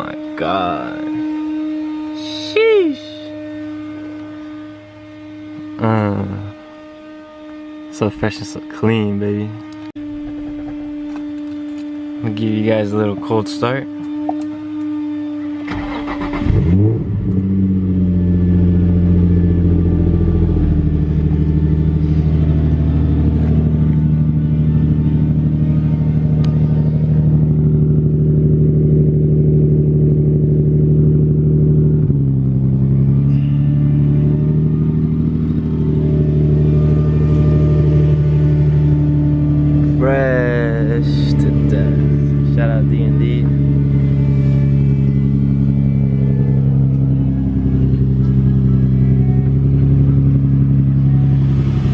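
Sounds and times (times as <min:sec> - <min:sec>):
car engine idling: 0:00.0 - 0:51.9.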